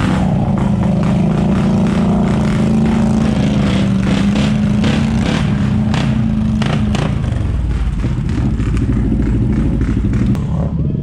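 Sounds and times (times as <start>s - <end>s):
atv engines running: 0.0s - 11.0s
quads churning through mud: 0.0s - 11.0s.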